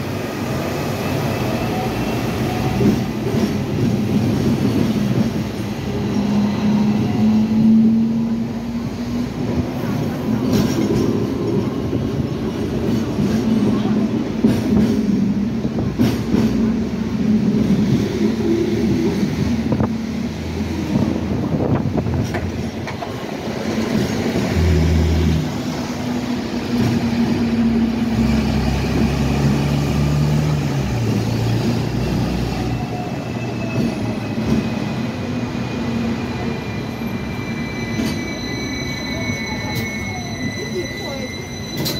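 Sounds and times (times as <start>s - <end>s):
tram rumble and hum: 0.0s - 41.9s.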